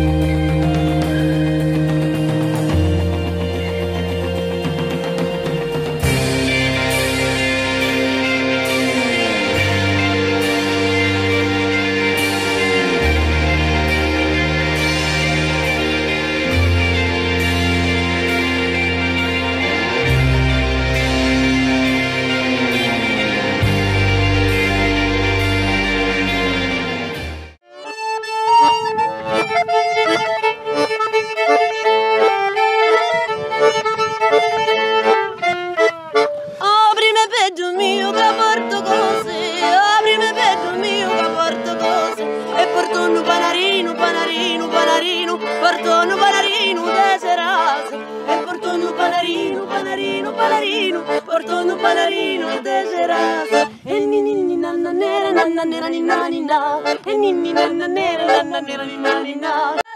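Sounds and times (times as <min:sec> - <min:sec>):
button accordion: 0:00.0 - 0:59.9
violin melody: 0:00.0 - 0:59.9.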